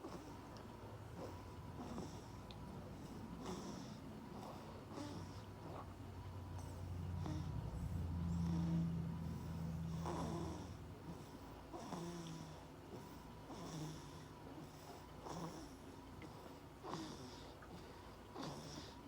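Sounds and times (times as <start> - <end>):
baby snoring: 1.1 - 6.0, 6.6 - 15.8, 16.8 - 19.0.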